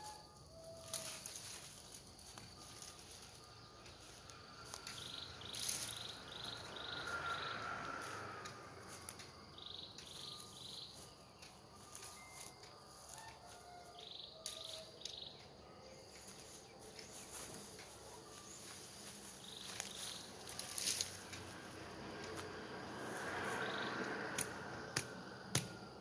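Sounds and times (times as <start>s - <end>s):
dry leaves crackling underfoot: 0.0s - 9.4s, 10.0s - 14.9s, 16.0s - 24.7s
faint chirps: 0.0s - 21.3s.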